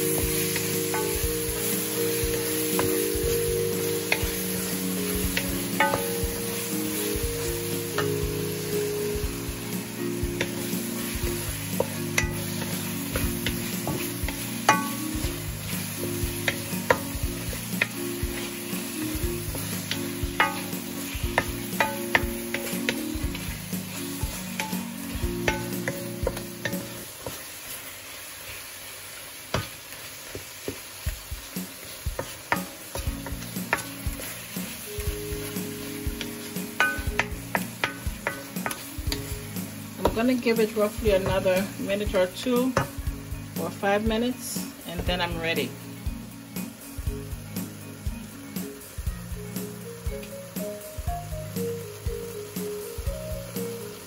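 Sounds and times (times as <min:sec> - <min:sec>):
background music with bass: 0:00.0 - 0:27.0, 0:33.0 - 0:54.0
food sizzling in a frying pan: 0:00.0 - 0:54.0.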